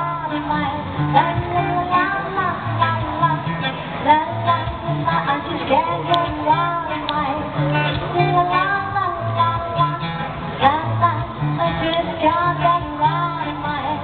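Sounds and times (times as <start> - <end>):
acoustic guitar strumming: 0.0 - 14.0
person singing: 0.0 - 14.0.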